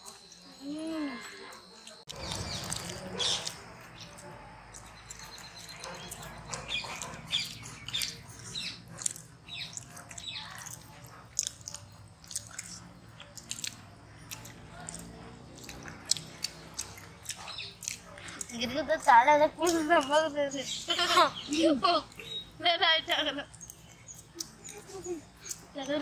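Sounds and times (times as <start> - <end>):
people chewing: 0.0 - 26.0.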